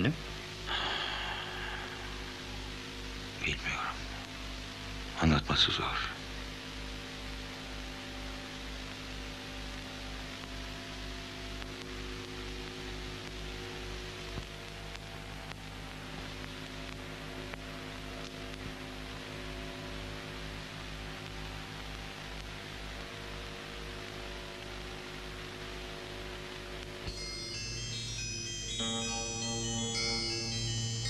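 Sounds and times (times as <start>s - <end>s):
electrical mains hum: 0.0s - 31.0s
recording hiss: 0.0s - 31.0s.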